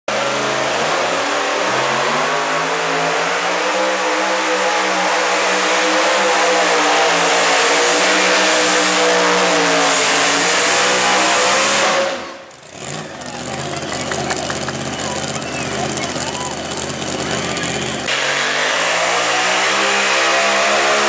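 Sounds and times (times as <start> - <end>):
large engine running loudly: 0.1 - 21.0.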